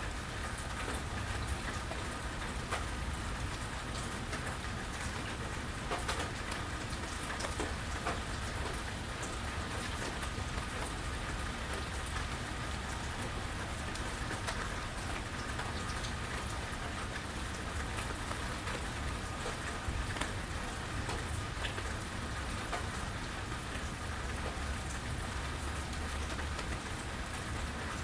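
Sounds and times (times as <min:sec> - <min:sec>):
steady rain: 0:00.0 - 0:28.0
close drips and splashes: 0:00.1 - 0:28.0.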